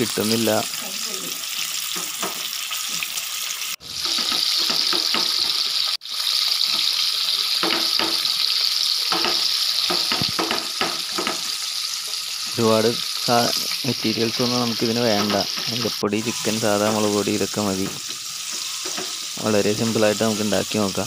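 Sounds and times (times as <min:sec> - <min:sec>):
deep-frying sizzle: 0:00.0 - 0:21.0.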